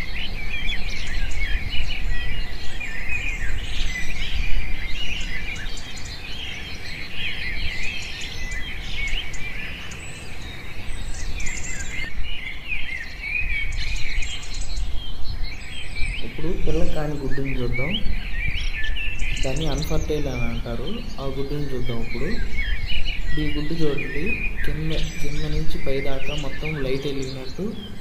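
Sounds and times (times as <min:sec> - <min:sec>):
low background noise: 0:00.0 - 0:28.0
small birds chirping: 0:00.0 - 0:28.0.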